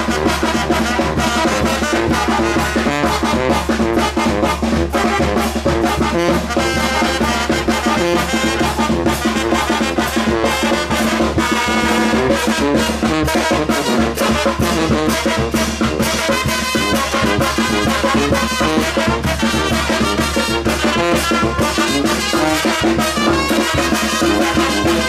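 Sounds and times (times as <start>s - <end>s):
brass band playing: 0.0s - 25.0s
drum beat: 0.0s - 25.0s
trumpets and trombones: 0.0s - 25.0s.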